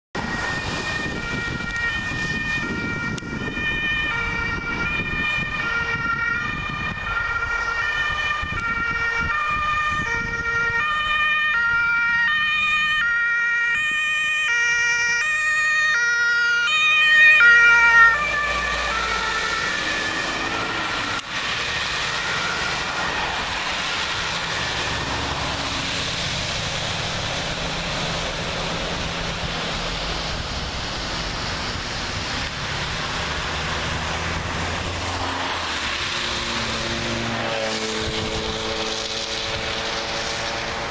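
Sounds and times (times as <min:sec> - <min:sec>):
traffic on wet road: 0:00.1 - 0:40.9
two-tone fire engine sirens: 0:00.1 - 0:40.9.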